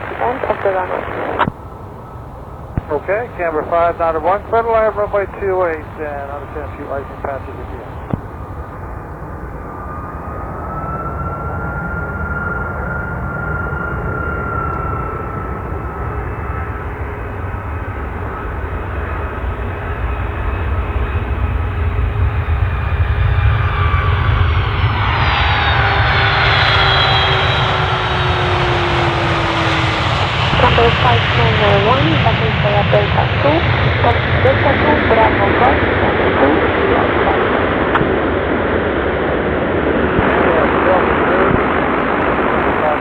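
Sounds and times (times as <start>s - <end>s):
jet engines roaring with whine: 0.0s - 43.0s.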